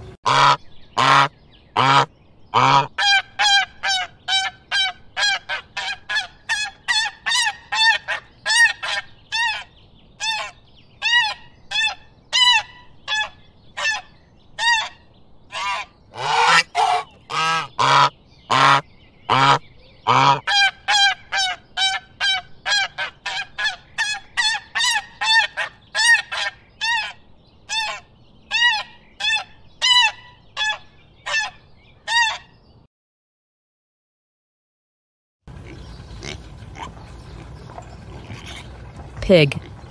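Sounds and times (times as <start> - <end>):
geese honking: 0.2 - 32.5.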